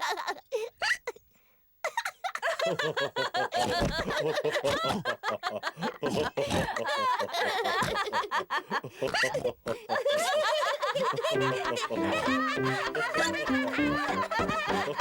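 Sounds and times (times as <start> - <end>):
cartoon characters laughing: 1.9 - 15.0.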